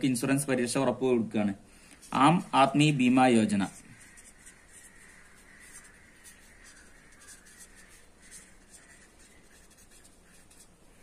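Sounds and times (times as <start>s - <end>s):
marker pen scratching on paper: 2.1s - 11.0s.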